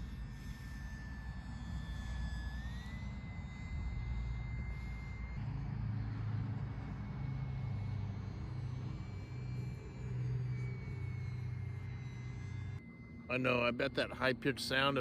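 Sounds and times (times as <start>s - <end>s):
model airplane whine: 0.0s - 15.0s.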